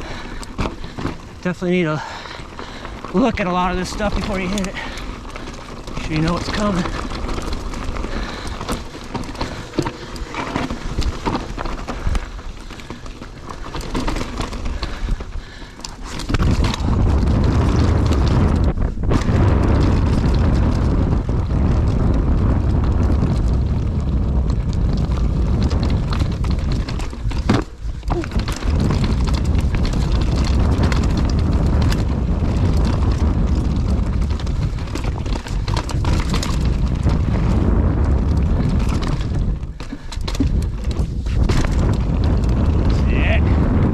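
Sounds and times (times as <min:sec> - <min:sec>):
bike clattering over rocks: 0:00.0 - 0:43.9
wind buffeting microphone: 0:00.0 - 0:43.9.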